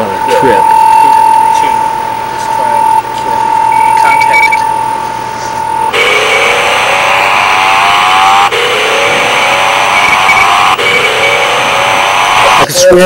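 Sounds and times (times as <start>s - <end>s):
steady high beep tone: 0.0s - 13.0s
whine rising in pitch: 0.0s - 13.0s.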